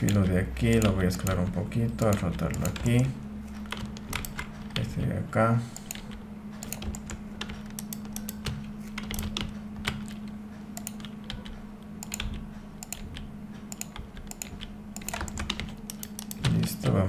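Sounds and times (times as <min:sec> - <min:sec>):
keyboard typing: 0:00.0 - 0:05.0, 0:05.7 - 0:17.0
steady low hum: 0:00.0 - 0:17.0.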